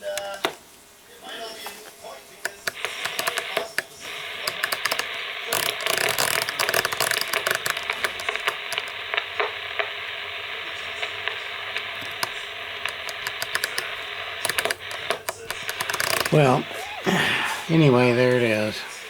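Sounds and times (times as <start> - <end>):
sharp clicks and crackles: 0.0 - 0.6, 1.6 - 16.7
radio static hiss: 0.0 - 19.0.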